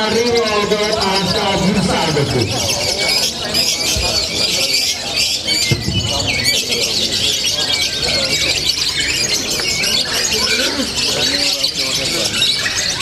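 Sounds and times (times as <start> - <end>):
lovebirds chattering and squawking: 0.0 - 13.0.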